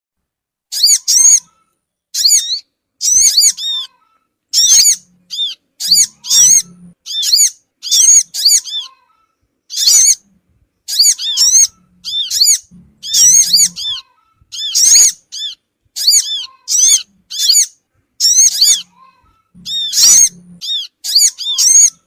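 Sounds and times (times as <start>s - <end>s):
sunbird chirping: 0.7s - 22.0s.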